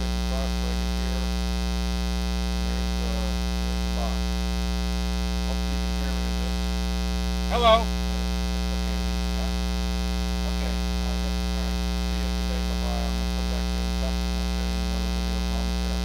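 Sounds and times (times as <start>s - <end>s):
mains hum with buzz: 0.0s - 16.0s.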